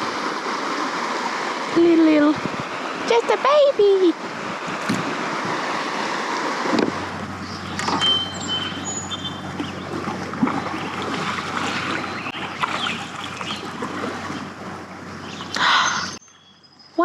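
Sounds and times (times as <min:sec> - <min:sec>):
light water splashing: 0:00.0 - 0:16.1
river water rushing: 0:00.0 - 0:16.2.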